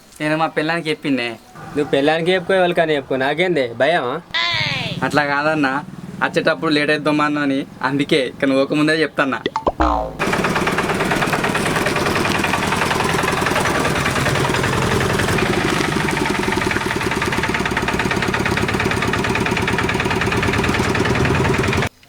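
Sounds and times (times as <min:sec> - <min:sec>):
auto-rickshaw engine running: 0:01.6 - 0:03.8, 0:04.6 - 0:09.2, 0:10.2 - 0:21.9.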